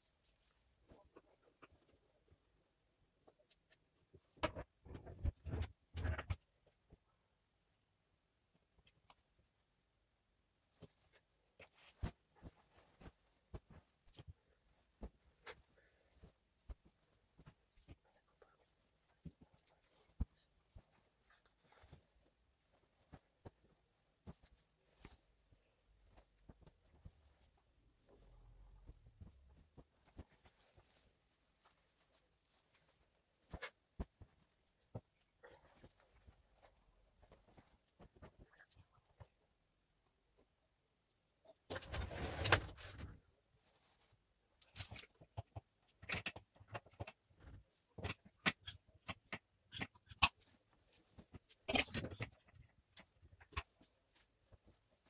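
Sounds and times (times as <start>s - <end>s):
clothes rustling and sliding: 0.0s - 41.1s, 41.7s - 45.8s, 50.4s - 55.0s.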